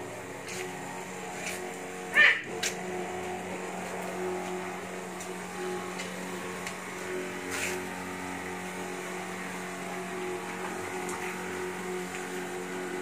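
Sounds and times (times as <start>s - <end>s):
sprayer pump motor humming: 0.0s - 13.0s
nozzle misting spray: 0.1s - 13.0s.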